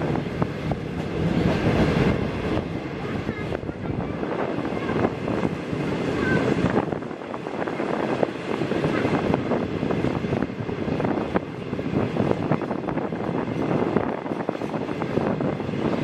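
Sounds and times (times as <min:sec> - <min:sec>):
train wheels rumbling and clicking: 0:00.0 - 0:16.0
wind buffeting microphone: 0:00.0 - 0:16.0.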